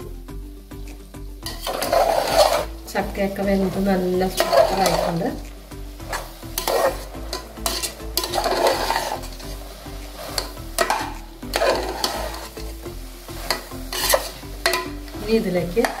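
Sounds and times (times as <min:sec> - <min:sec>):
ladle scraping and knocking pot: 0:01.4 - 0:02.8, 0:03.6 - 0:05.3, 0:06.0 - 0:16.0
metal ladle stirring food: 0:01.4 - 0:16.0.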